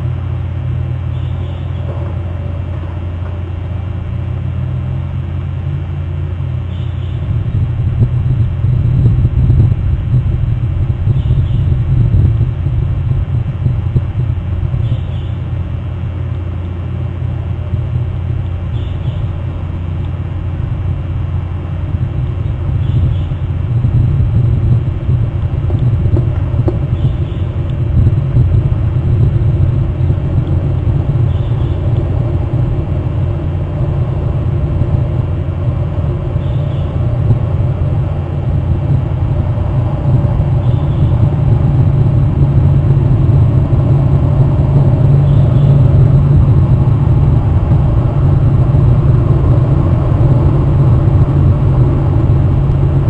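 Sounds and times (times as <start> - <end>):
wind buffeting microphone: 6.8 - 16.2, 17.5 - 53.0.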